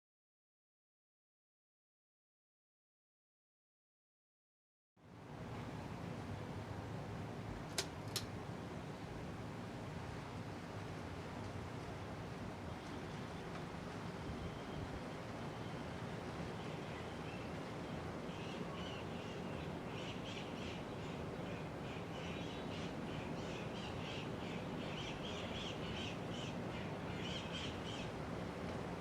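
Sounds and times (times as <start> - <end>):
ceiling fan humming: 5.0 - 29.0.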